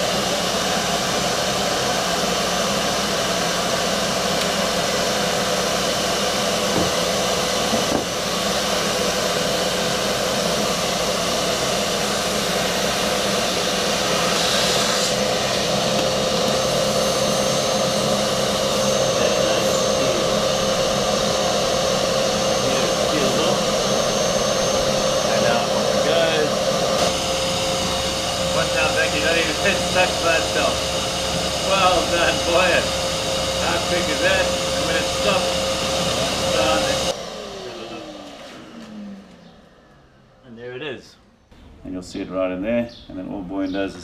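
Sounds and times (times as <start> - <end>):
vacuum cleaner whining: 0.0 - 41.5.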